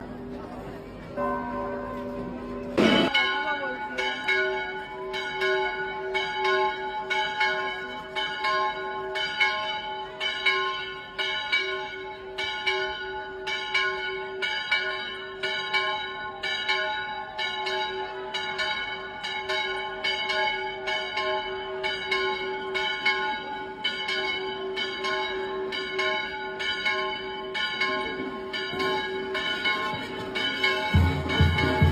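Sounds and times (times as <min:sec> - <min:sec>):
church bells pealing: 0:00.0 - 0:31.9
low bell hum: 0:01.2 - 0:31.9.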